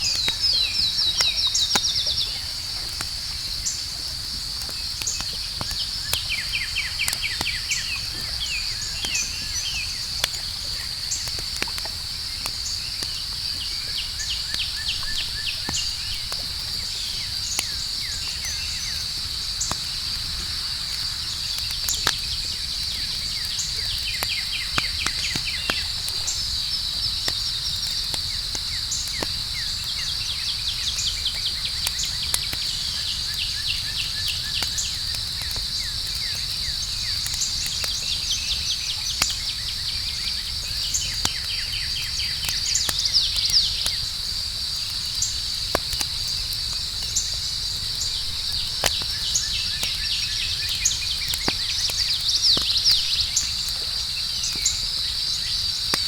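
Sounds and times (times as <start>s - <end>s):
campfire crackling: 0.0s - 56.0s
crickets chirping: 0.0s - 56.0s.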